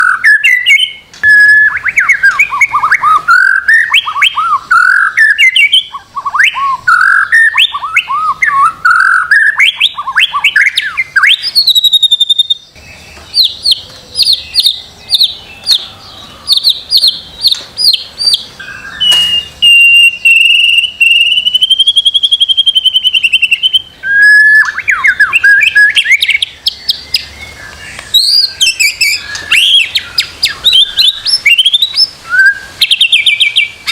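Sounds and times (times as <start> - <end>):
bird singing whistled song: 0.0 - 33.9.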